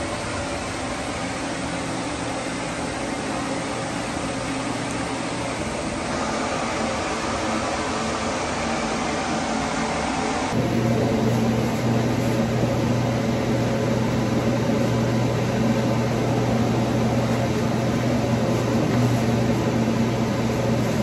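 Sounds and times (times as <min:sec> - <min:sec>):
ventilation fan whirring: 0:00.0 - 0:21.0.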